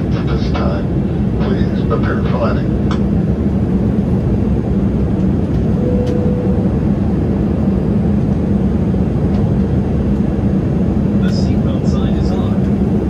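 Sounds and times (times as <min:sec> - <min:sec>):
airliner cabin roar: 0:00.0 - 0:13.0.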